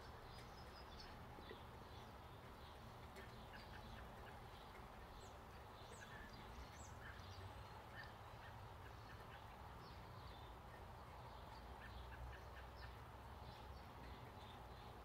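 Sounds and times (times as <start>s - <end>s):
faint bird chirps and calls: 0.0s - 15.0s.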